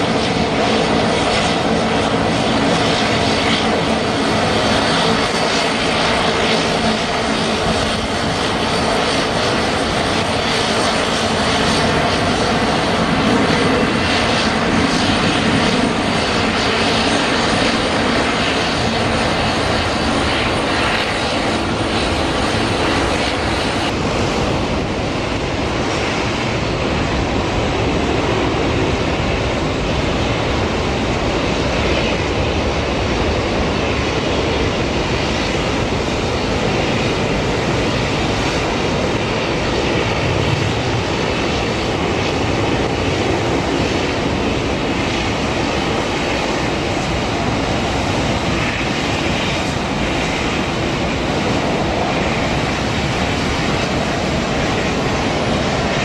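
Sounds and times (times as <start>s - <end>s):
distant jet rumble: 0.0s - 56.0s
jet engine roar: 0.0s - 56.0s.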